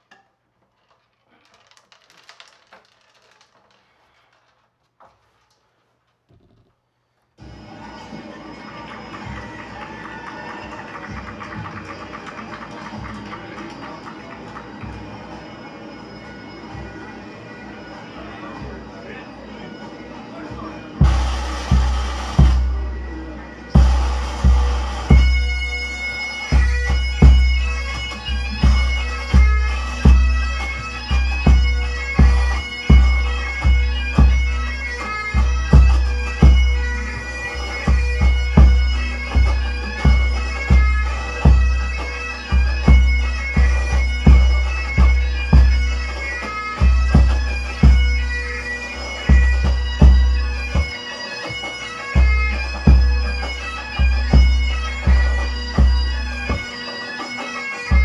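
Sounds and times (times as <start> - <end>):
bagpipe music: 7.4 - 58.0.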